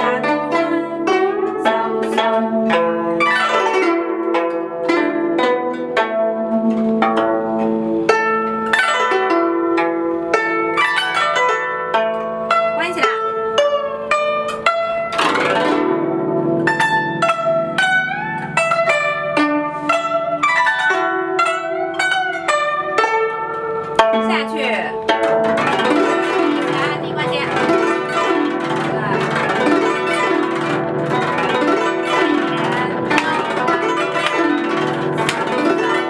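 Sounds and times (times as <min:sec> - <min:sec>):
glissando across strings: 0:00.0 - 0:36.0
guzheng plucked notes: 0:00.0 - 0:36.0.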